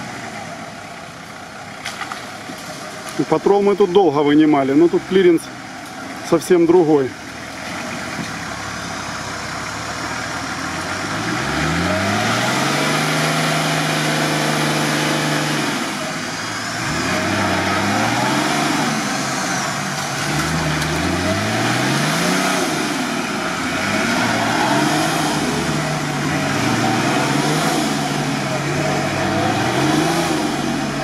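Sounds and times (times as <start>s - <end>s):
truck engine revving: 0.0s - 31.0s.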